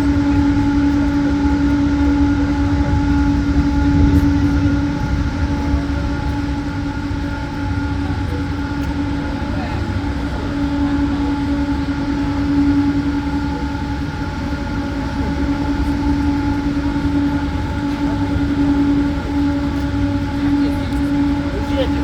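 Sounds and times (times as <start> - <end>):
cable car whine: 0.0 - 22.0
low rumble: 0.0 - 22.0.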